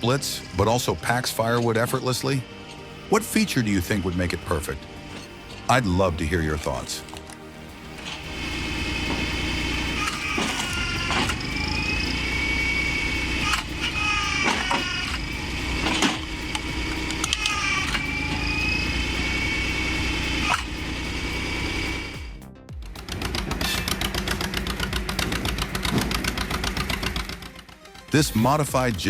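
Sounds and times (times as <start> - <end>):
firewood machine engine whine: 0.0 - 29.0.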